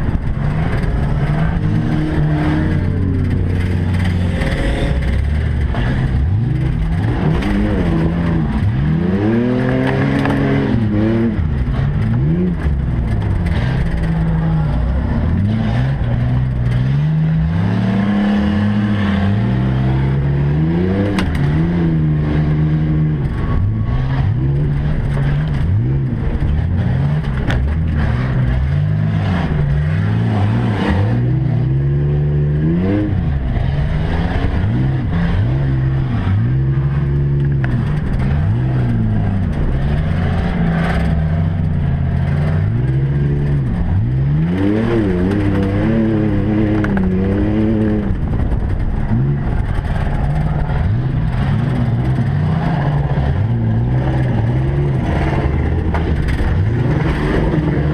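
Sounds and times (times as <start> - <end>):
race truck engines revving: 0.0 - 57.9.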